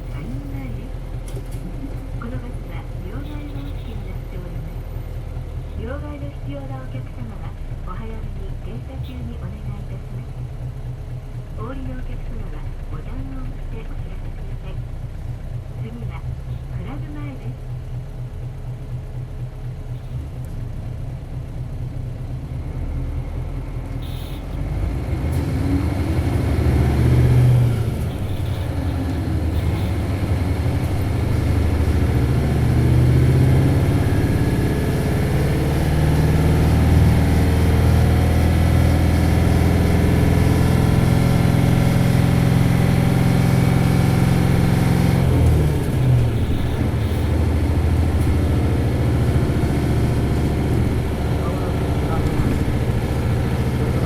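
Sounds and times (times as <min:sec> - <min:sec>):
bus diesel engine revving: 0:00.0 - 0:54.0.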